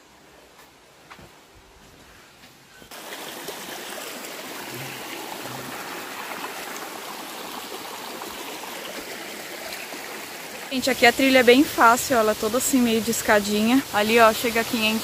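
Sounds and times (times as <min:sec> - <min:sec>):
stream running over stones: 0:02.9 - 0:15.0.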